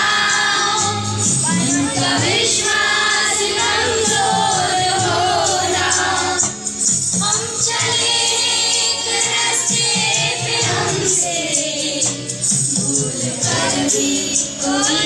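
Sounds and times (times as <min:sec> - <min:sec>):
children singing: 0:00.0 - 0:15.0
percussion beat: 0:00.0 - 0:15.0.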